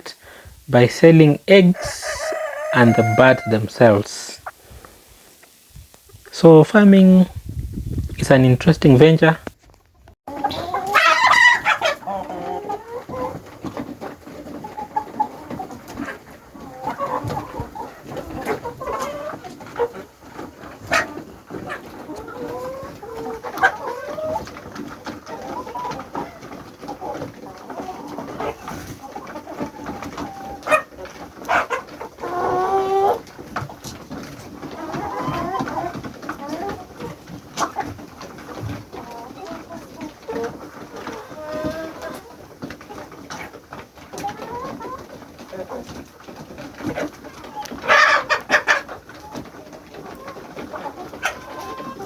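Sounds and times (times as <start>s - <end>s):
chickens clucking and calling: 0.0s - 52.0s.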